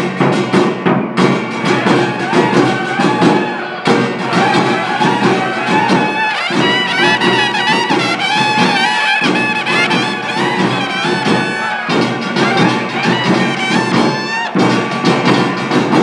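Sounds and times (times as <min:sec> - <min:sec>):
drums: 0:00.0 - 0:16.0
trumpets playing a tune: 0:01.6 - 0:15.8.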